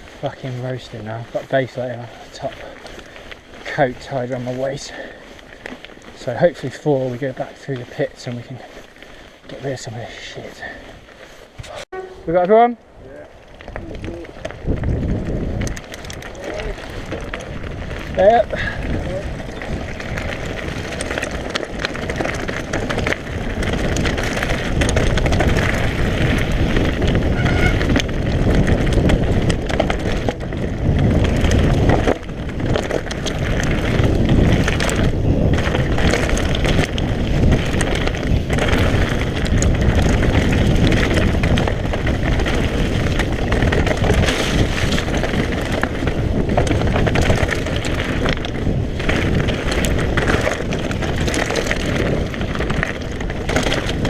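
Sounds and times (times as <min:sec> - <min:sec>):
bike rattling over rough ground: 0:00.0 - 0:54.0
wind rushing over microphone: 0:00.0 - 0:54.0.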